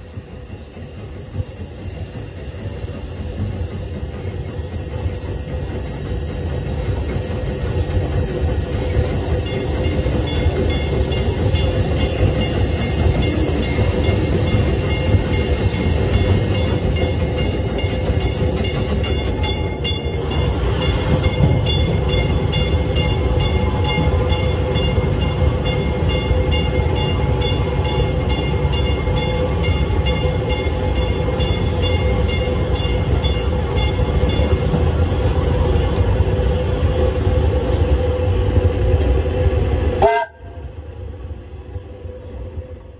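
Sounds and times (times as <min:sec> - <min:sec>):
steam hiss: 0:00.0 - 0:40.9
steam locomotive rumble: 0:00.0 - 0:42.9.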